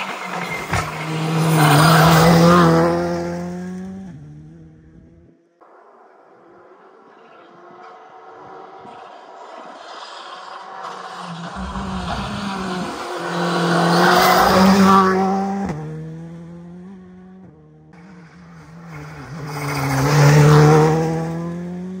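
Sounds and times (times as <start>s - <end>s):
rally car engines passing: 0.0s - 22.0s.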